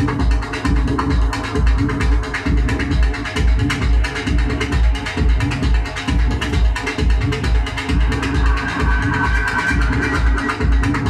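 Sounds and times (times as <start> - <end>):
deep bass beat: 0.0 - 11.0
electronic music: 0.0 - 11.0.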